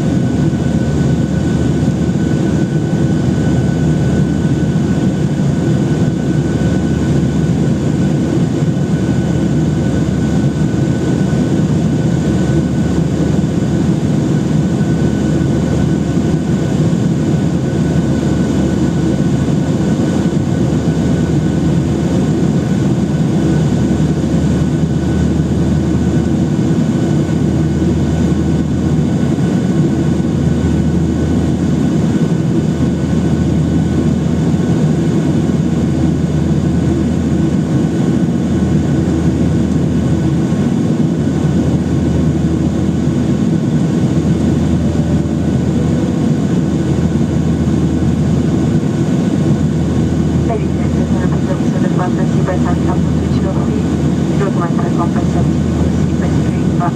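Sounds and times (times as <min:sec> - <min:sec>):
high jet engine whine: 0:00.0 - 0:56.9
jet engine cabin roar: 0:00.0 - 0:56.9.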